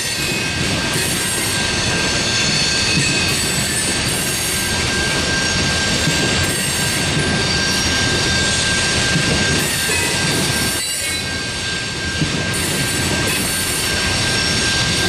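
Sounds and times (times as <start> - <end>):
high wheel squeal: 0.0 - 15.0
train wheels rumbling on rail: 0.0 - 15.0.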